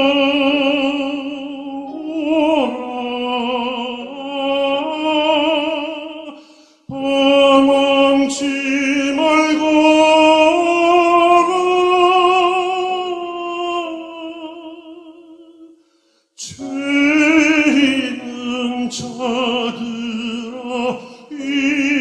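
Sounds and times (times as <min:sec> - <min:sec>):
tenor singing a hymn: 0:00.0 - 0:15.8, 0:16.4 - 0:22.0.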